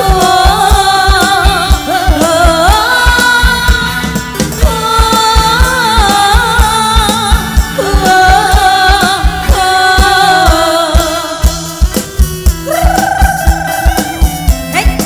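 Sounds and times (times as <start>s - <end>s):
woman singing: 0.0s - 11.8s, 12.6s - 14.2s
bass guitar: 0.0s - 15.0s
kick-drum beat: 0.0s - 15.0s.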